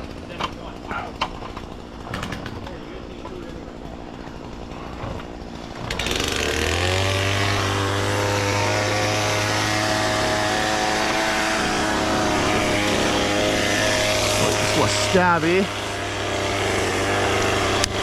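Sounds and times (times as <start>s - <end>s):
chainsaw starting and running: 0.0s - 18.0s.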